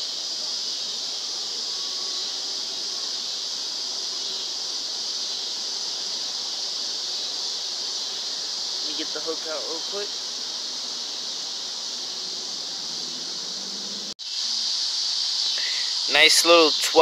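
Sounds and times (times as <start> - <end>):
crickets and insects chirring: 0.0 - 17.0.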